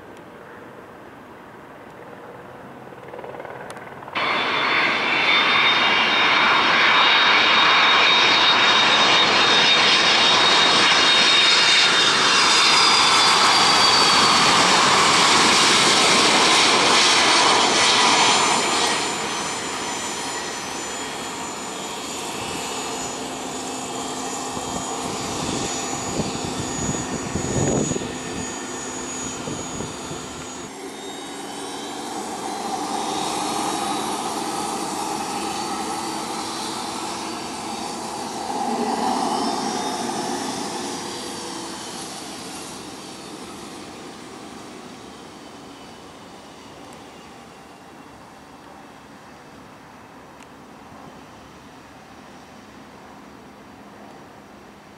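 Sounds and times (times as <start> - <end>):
taxiing jet engine hum: 1.6 - 54.7
jet engines whining: 2.8 - 51.7.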